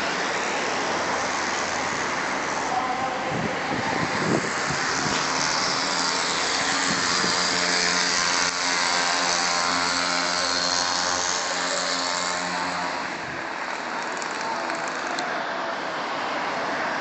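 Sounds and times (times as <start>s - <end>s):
motor engine droning: 0.0s - 15.2s.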